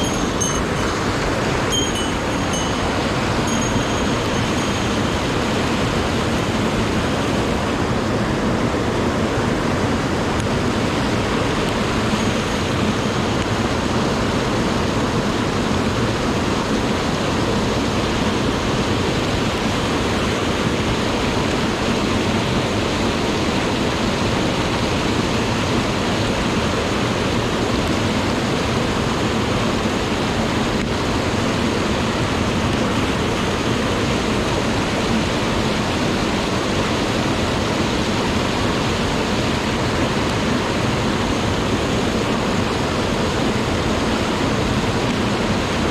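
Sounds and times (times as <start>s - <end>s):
stream rushing over rocks: 0.0s - 45.9s.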